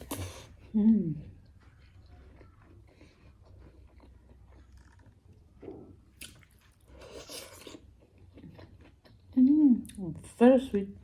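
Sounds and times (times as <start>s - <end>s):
person chewing: 0.0s - 0.7s, 1.3s - 10.0s.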